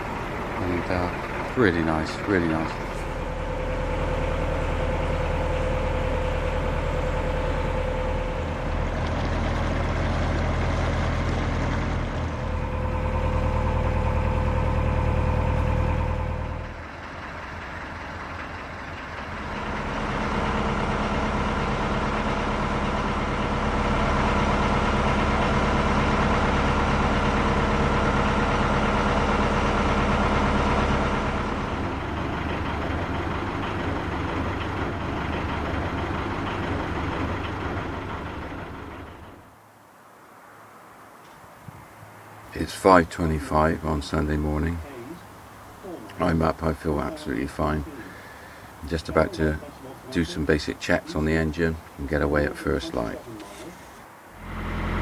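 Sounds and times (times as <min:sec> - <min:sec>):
boat diesel engine running: 0:00.0 - 0:39.6, 0:41.8 - 0:55.0.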